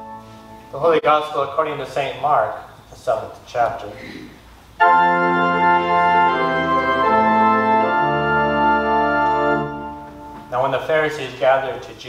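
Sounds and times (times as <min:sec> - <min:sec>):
organ chords: 0:00.0 - 0:03.2, 0:04.5 - 0:12.0.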